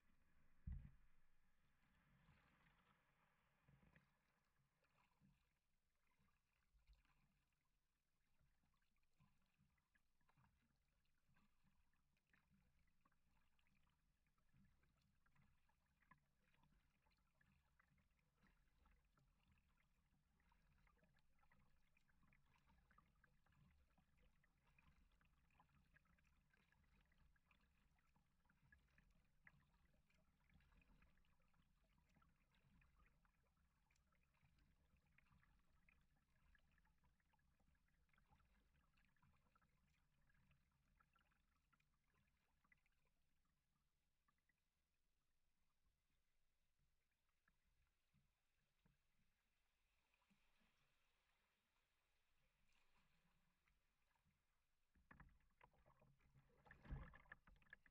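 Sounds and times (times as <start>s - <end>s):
water lapping against kayak hull: 0.0s - 44.6s, 47.4s - 57.9s.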